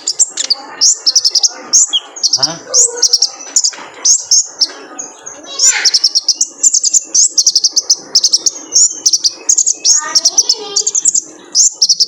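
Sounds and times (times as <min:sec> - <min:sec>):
sunbird singing twittering song: 0:00.0 - 0:12.0.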